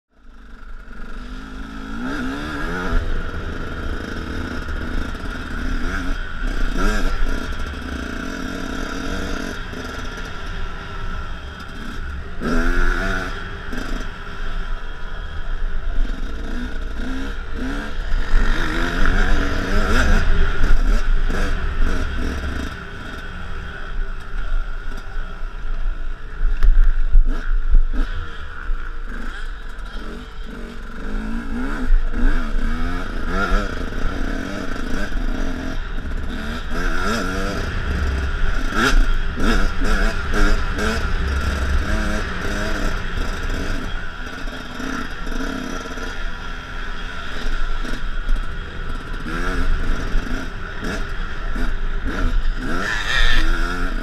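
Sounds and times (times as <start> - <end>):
two-stroke motorcycle engine revving: 0.2 - 54.0.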